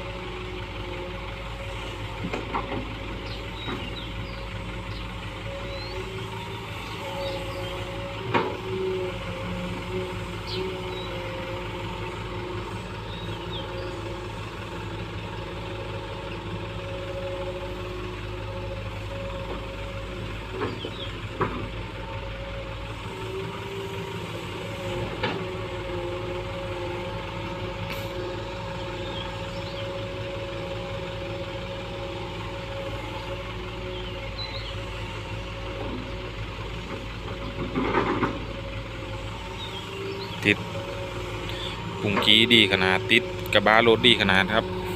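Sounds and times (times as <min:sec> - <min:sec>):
excavator engine drone: 0:00.0 - 0:44.9.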